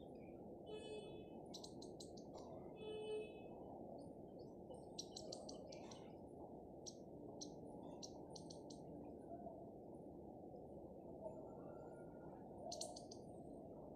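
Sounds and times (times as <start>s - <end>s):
faint birds chirping: 0.0s - 3.1s, 3.9s - 9.7s, 10.9s - 13.9s.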